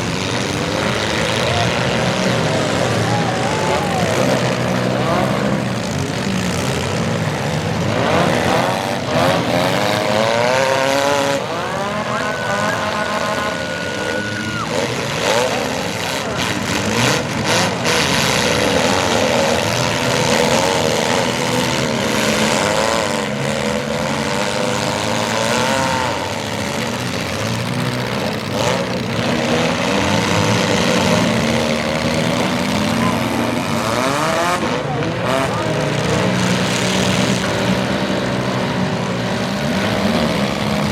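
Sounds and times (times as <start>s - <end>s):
car engines revving: 0.0s - 40.9s.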